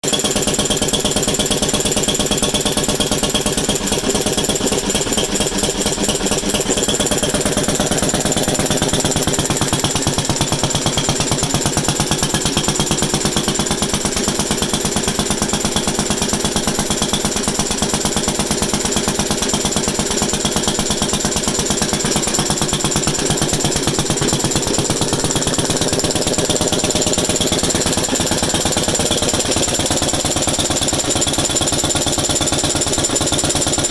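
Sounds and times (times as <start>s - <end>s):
stationary engine running: 0.0s - 33.9s.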